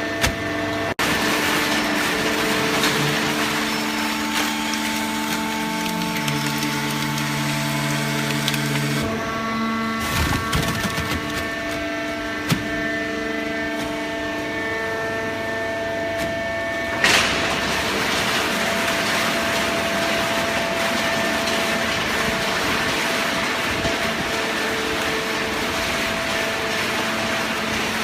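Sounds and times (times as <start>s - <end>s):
baling press machine whine: 0.0s - 28.0s.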